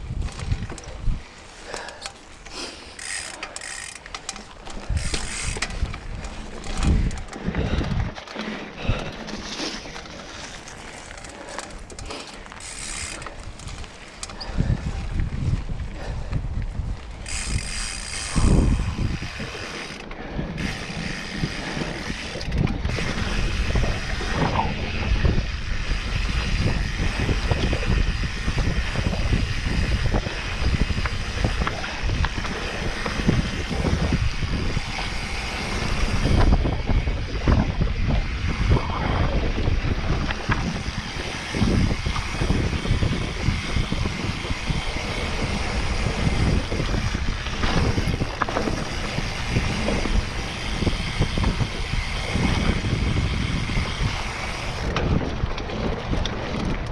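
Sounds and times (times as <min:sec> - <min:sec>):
bike freehub ratchet clicking: 0:00.1 - 0:08.0, 0:10.8 - 0:16.2, 0:17.1 - 0:55.2.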